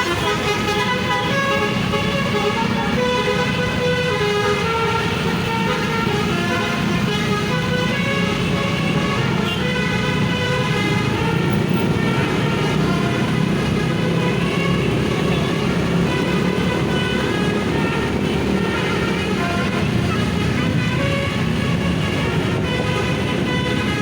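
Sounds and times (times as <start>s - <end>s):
musical bus horn melody: 0.0s - 24.0s.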